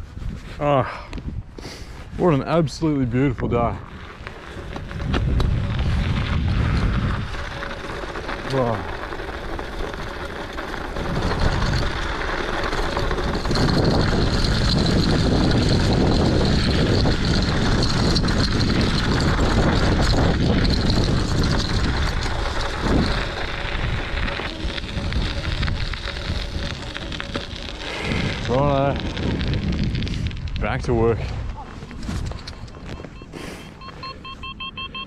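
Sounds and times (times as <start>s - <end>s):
wind buffeting microphone: 0.0s - 33.2s
bicycle tyres rolling on snow: 0.0s - 35.0s.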